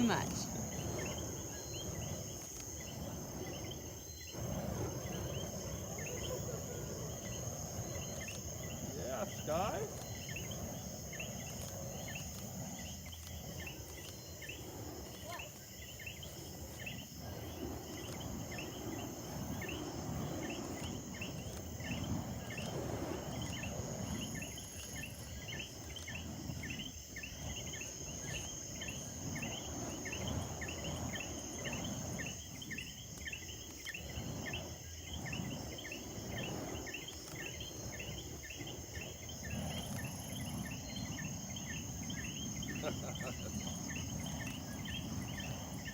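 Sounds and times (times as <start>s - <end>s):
crickets chirping: 0.0s - 45.9s
high insect trill: 0.0s - 45.9s.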